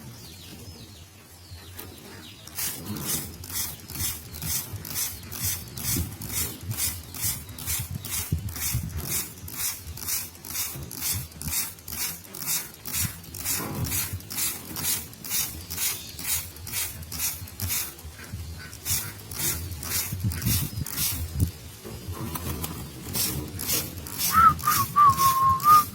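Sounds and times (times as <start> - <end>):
spray bottle squirting water: 2.4 - 21.6, 22.2 - 25.9.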